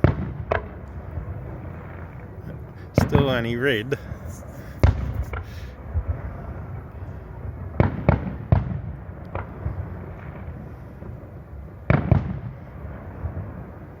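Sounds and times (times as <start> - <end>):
distant fireworks bangs: 0.0 - 14.0
low steady rumble: 0.0 - 14.0.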